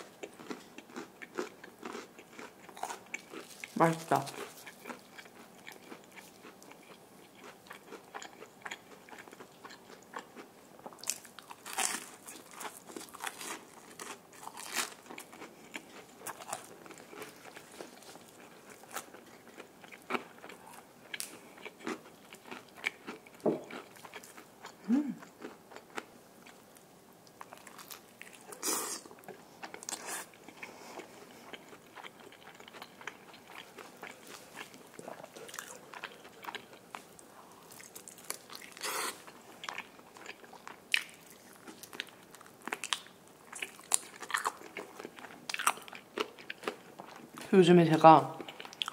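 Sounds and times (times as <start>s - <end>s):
crunching fried chicken: 0.0s - 24.8s, 31.4s - 47.3s
quiet chewing: 0.0s - 47.5s, 48.4s - 48.9s.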